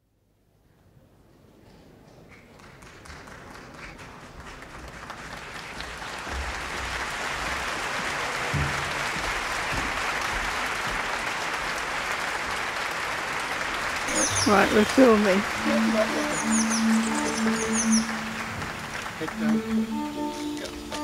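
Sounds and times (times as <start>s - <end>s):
audience applause: 2.3s - 21.0s.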